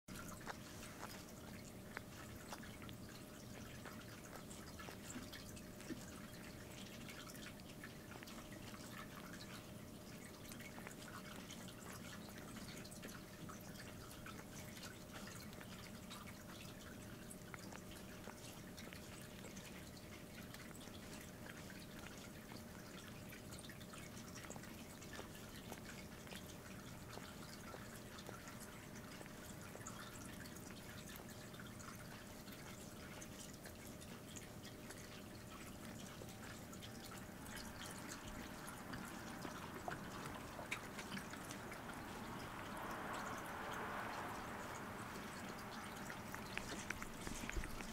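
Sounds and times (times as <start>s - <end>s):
cat licking its fur: 0.1s - 47.9s
faint steady hum: 0.1s - 47.9s.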